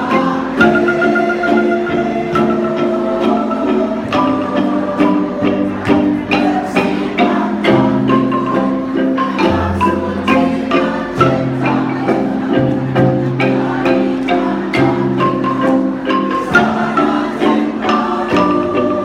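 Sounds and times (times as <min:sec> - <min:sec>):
wooden xylophone ensemble playing: 0:00.0 - 0:19.0.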